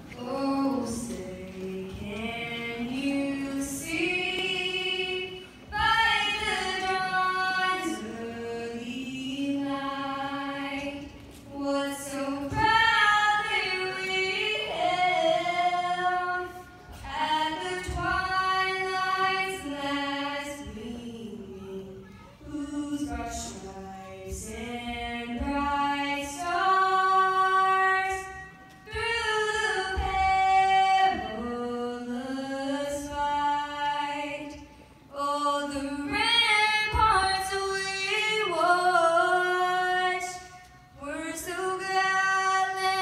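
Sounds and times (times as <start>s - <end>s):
girl singing unaccompanied: 0.0s - 43.0s.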